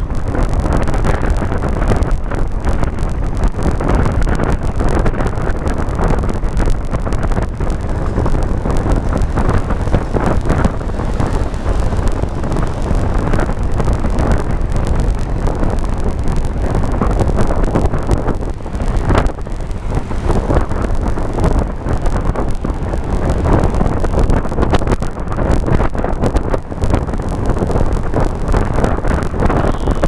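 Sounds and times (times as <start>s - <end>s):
tyre and road noise: 0.0s - 30.0s
wind rumble on microphone: 0.0s - 30.0s.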